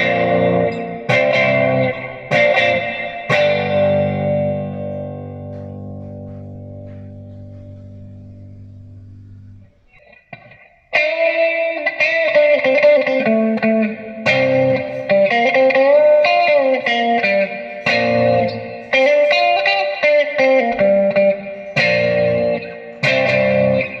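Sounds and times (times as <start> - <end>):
electric guitar chords and notes: 0.0 - 24.0.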